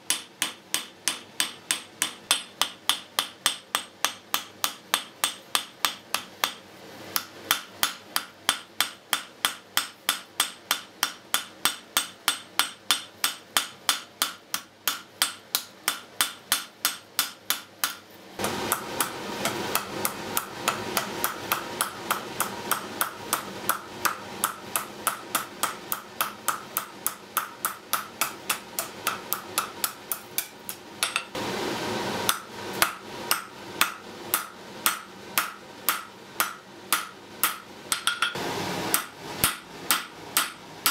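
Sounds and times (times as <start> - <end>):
hammer striking steel on anvil: 0.1 - 31.4, 32.3 - 40.9.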